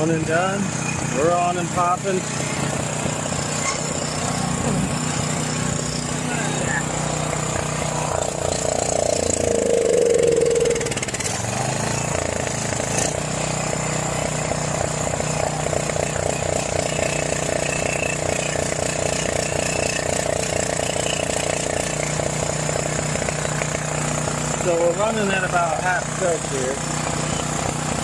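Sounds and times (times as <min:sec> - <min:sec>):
generator engine running rough: 0:00.0 - 0:28.0.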